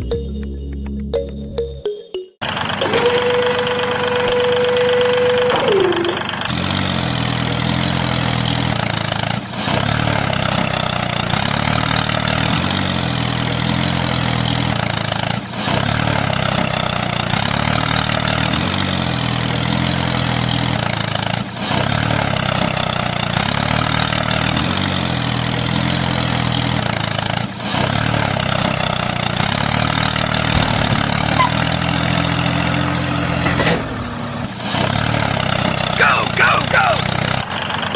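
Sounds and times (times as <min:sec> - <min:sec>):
tractor engine idling: 0:00.0 - 0:37.9.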